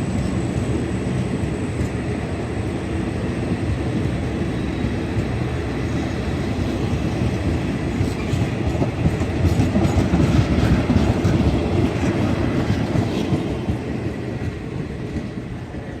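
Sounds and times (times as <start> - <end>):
clickety-clack of rail joints: 0.0 - 16.0
train wheels rumbling on rail: 0.0 - 16.0.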